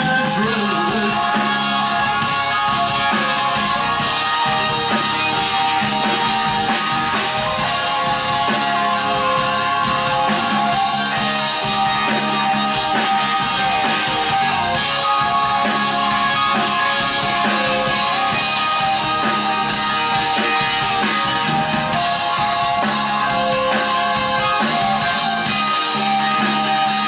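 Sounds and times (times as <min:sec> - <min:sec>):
drum kit: 0:00.0 - 0:27.0
electric guitar: 0:00.0 - 0:27.0
rock band playing instrumental: 0:00.0 - 0:27.0.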